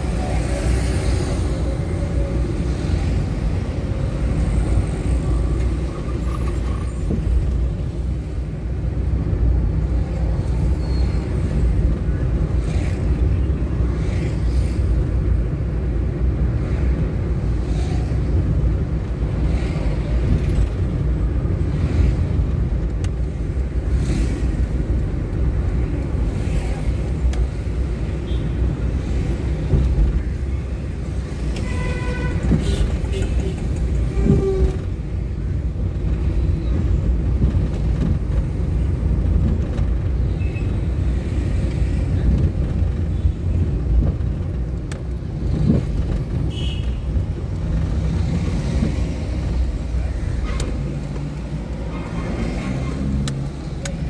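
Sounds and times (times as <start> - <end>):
car engine and tyre rumble: 0.0 - 54.0
passing road traffic: 0.0 - 54.0.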